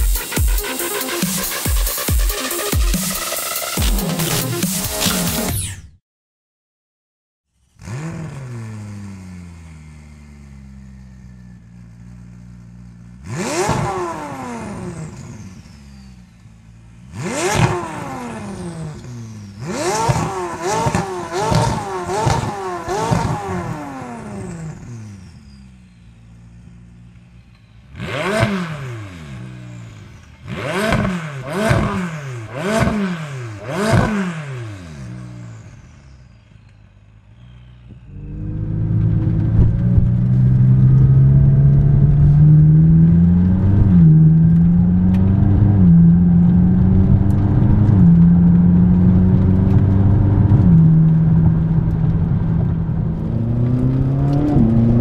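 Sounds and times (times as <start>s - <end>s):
car engine starting and revving: 0.0s - 5.6s, 7.6s - 55.0s.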